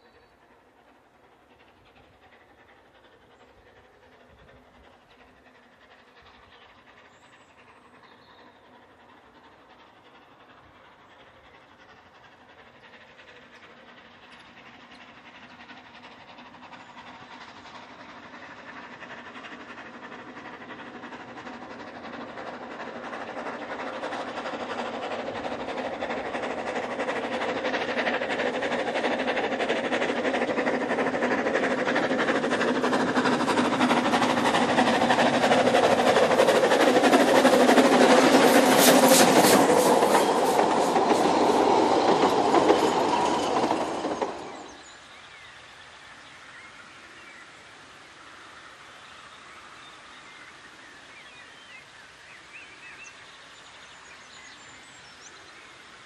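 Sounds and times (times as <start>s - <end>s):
steam locomotive approaching: 0.0s - 56.0s.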